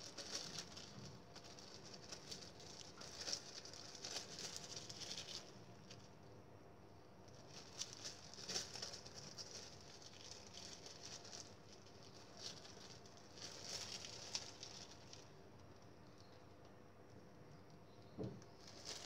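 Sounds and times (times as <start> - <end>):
plastic bag rustling: 0.0 - 6.2, 7.3 - 15.8, 18.2 - 19.0.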